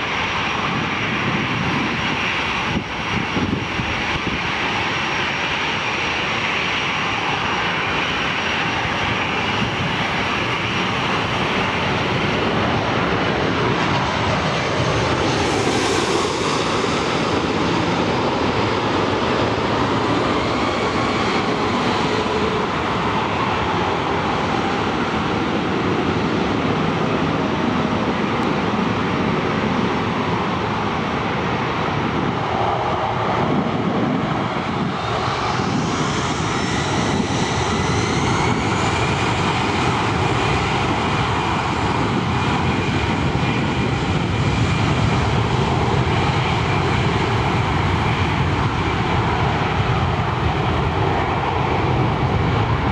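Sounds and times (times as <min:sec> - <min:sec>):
jet engines taxiing: 0:00.0 - 0:52.9.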